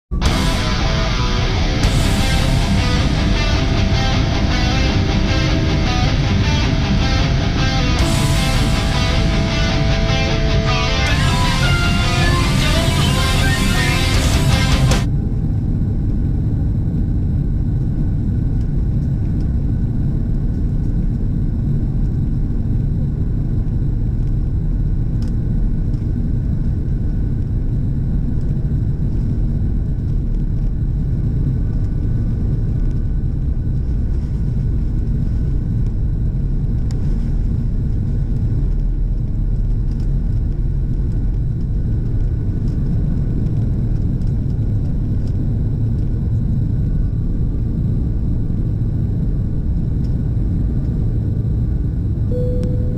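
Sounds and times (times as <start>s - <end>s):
airplane rumbling in flight: 0.1s - 52.9s.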